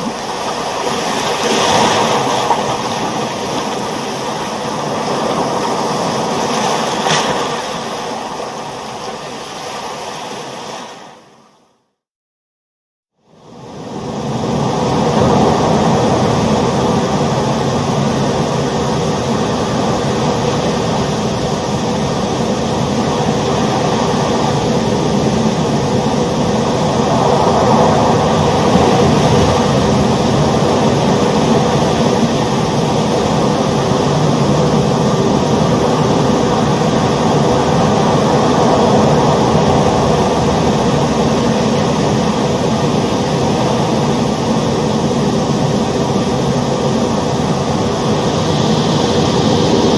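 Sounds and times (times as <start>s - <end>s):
ocean roar: 0.0s - 11.2s, 13.4s - 49.9s.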